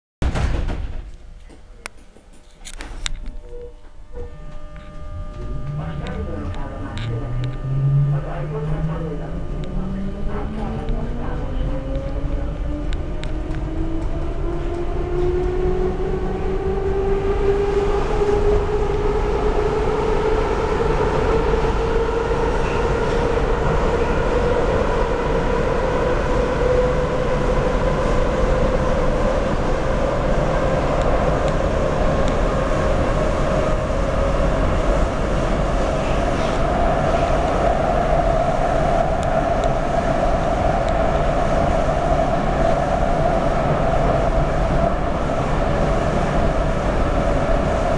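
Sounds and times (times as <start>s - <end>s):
wheels rumbling on rail: 0.3s - 47.9s
metro train motor whine: 1.1s - 47.9s.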